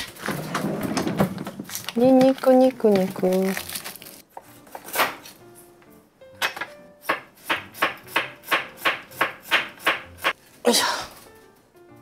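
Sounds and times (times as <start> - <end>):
light background music: 0.1 - 12.0.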